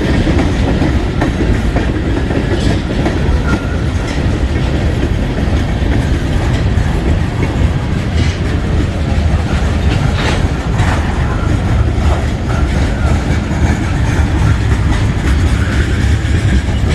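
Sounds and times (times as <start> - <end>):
freight train rumbling past: 0.0 - 16.9
wheels clacking over rail joints: 0.0 - 16.9.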